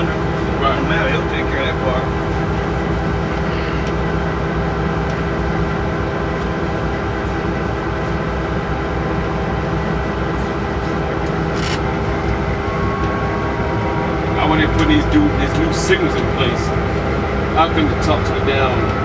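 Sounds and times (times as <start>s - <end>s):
locomotive engine drone: 0.0s - 19.0s.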